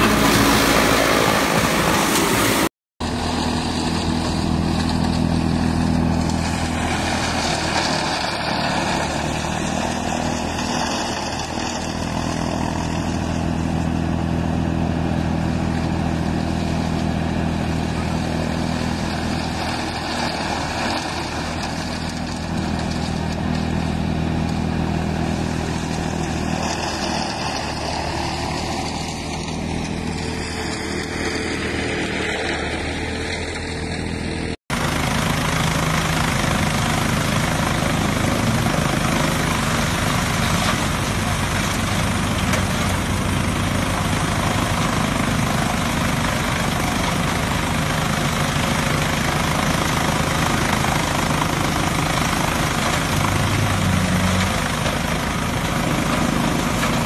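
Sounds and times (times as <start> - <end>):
broad rushing noise: 0.0 - 57.0
chaff cutter engine drone: 0.0 - 57.0.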